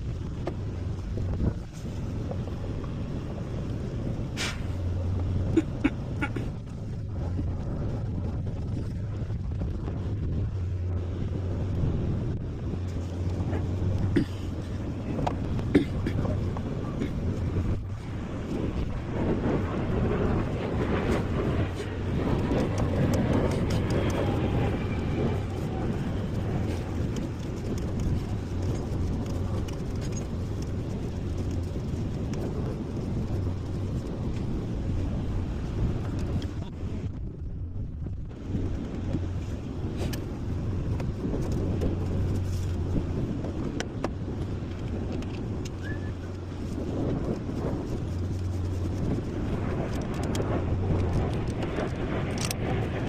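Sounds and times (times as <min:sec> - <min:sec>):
vehicle engine humming: 0:00.0 - 0:53.0.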